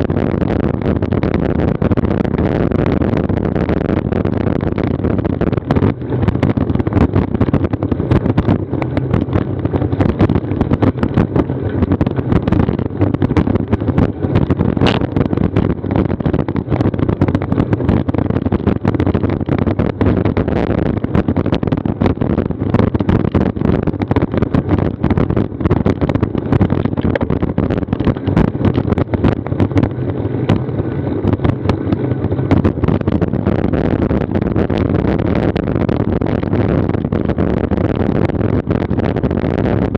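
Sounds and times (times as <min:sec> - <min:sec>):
wind and road rumble: 0:00.0 - 0:39.9.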